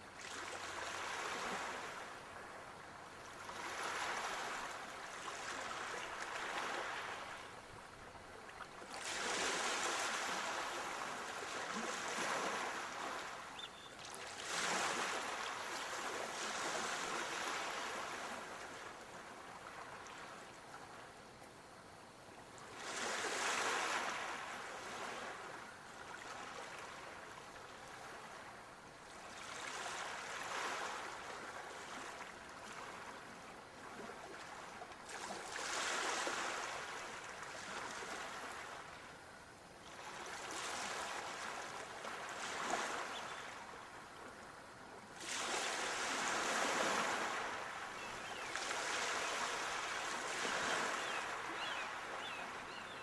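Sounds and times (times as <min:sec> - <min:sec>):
sea waves breaking on shore: 0:00.1 - 0:21.1, 0:22.6 - 0:53.0.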